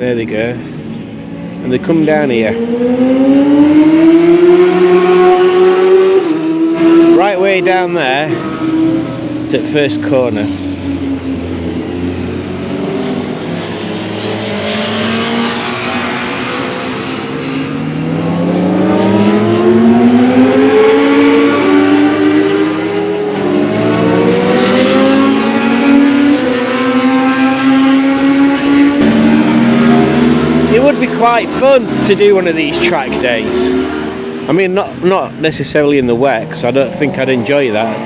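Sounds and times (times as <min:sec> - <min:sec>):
racing motorcycles revving: 0:00.0 - 0:38.0.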